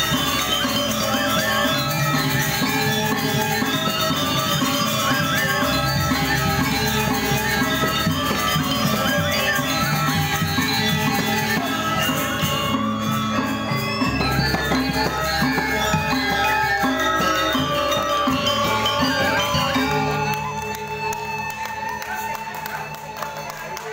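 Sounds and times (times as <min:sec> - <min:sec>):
bamboo flutes: 0:00.0 - 0:23.9
metallophones and gongs ringing: 0:00.0 - 0:23.9.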